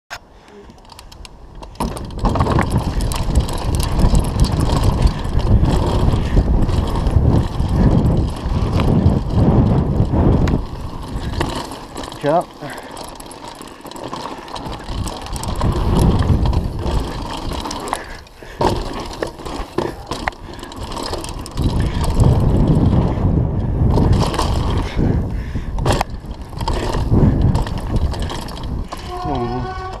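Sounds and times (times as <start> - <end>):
bike rattling and clicking: 0.2 - 30.0
bike tyres rumbling on dirt: 1.3 - 30.0
wind on microphone: 1.8 - 12.2, 14.6 - 30.0.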